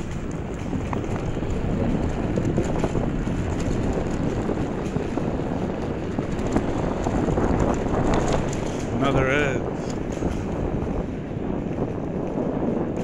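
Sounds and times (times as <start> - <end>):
electric scooter rumbling: 0.0 - 13.0
wind on microphone: 0.0 - 13.0.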